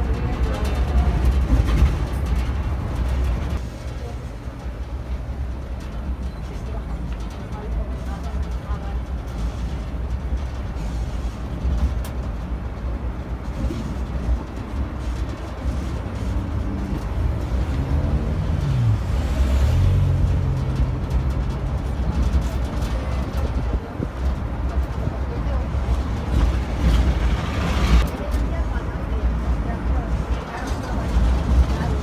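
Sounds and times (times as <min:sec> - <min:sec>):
road train engine rumble: 0:00.0 - 0:32.0.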